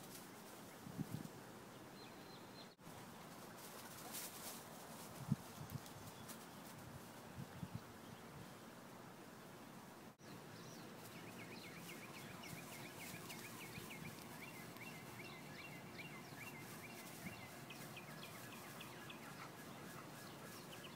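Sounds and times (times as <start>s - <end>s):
faint outdoor background noise: 0.0s - 20.9s.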